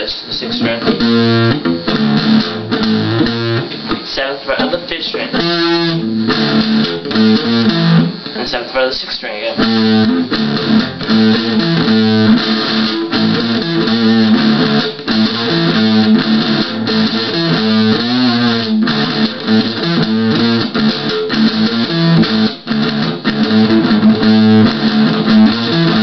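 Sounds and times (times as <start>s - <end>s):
electric guitar rock riff: 0.0s - 26.0s.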